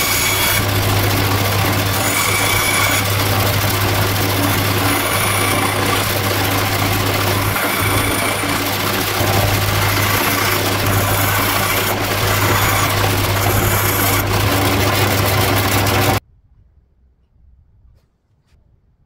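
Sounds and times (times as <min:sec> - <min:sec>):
bandsaw cutting wood: 0:00.0 - 0:16.2.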